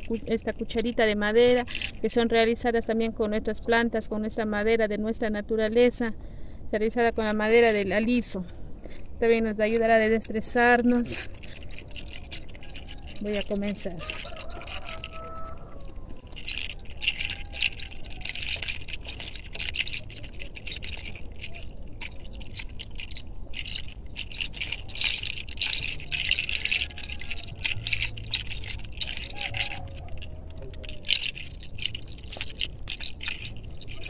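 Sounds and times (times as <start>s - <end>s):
scratchy rubbing and rustling: 0.0s - 2.7s, 8.9s - 34.0s.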